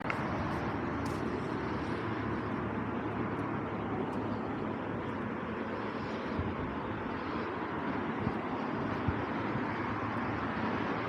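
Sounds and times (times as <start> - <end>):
city road traffic hum: 0.0 - 11.0.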